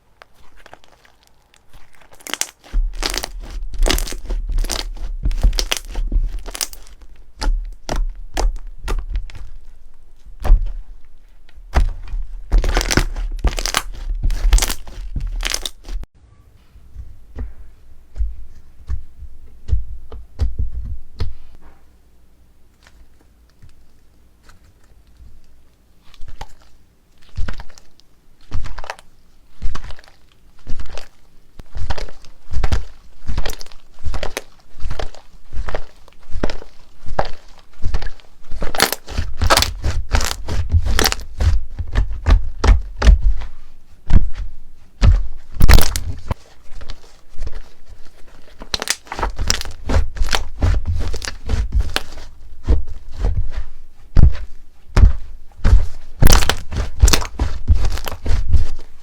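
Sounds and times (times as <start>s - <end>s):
crunchy slime crackling and popping: 0.0s - 16.1s, 26.0s - 59.0s.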